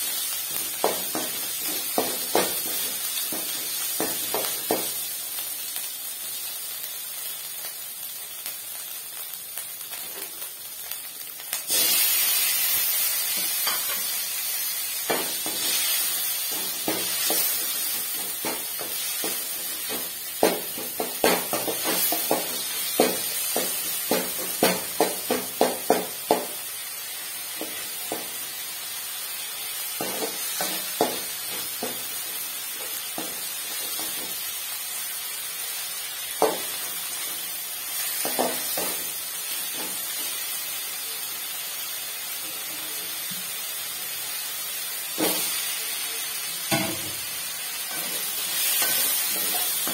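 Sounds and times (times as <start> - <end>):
vegetables sizzling in a pan: 0.0 - 49.9.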